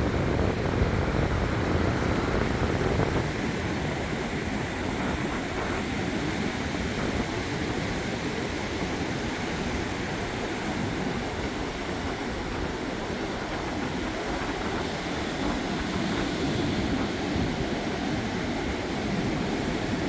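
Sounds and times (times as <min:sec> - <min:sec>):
small waves washing onto beach: 0:00.0 - 0:20.0.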